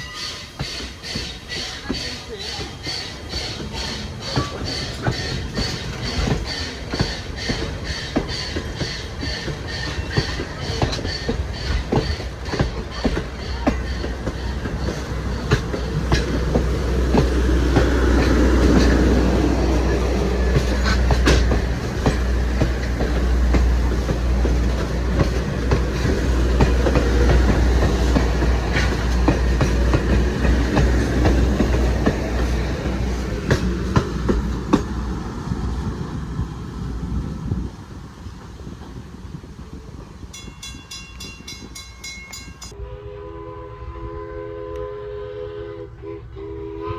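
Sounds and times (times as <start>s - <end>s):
wheels clicking over rail joints: 0.0s - 42.8s
train rumbling past: 0.0s - 46.9s.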